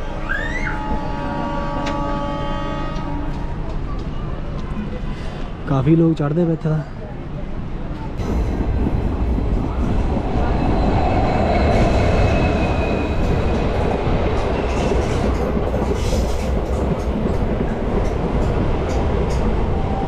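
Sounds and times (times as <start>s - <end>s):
train interior low rumble: 0.0s - 20.0s.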